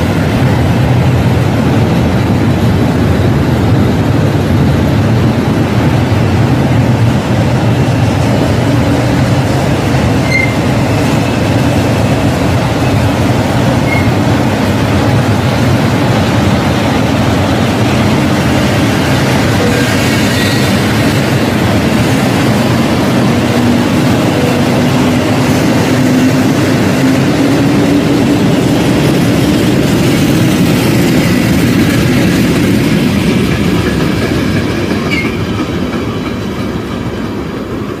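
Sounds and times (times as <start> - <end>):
freight train wagons rolling past: 0.0 - 38.0.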